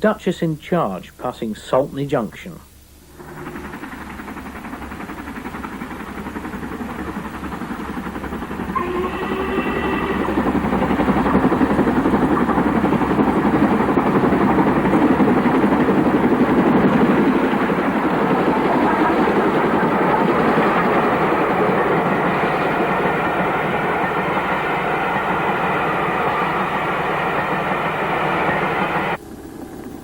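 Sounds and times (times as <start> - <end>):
steam locomotive exhaust beats: 2.8 - 29.2.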